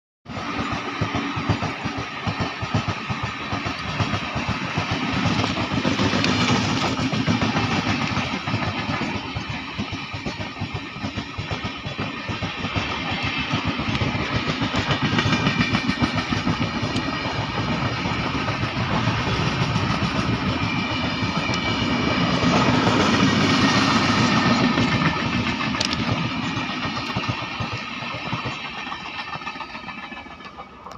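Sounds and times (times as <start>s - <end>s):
train wheels clattering on rails: 0.3s - 30.9s.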